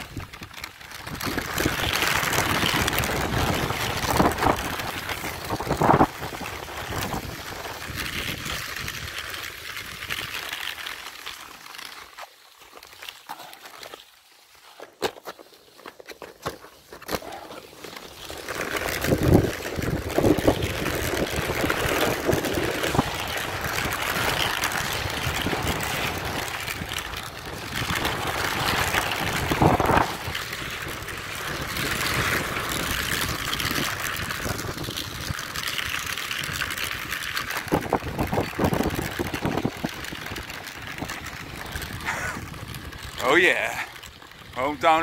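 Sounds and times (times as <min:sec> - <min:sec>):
wheels rolling on gravelly dirt: 0:00.0 - 0:45.0.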